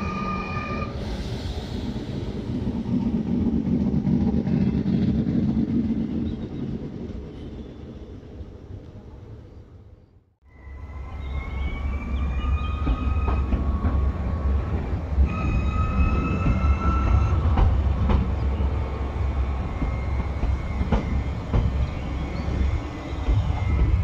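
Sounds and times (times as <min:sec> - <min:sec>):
electric train running past: 0:00.0 - 0:09.6, 0:10.5 - 0:24.0.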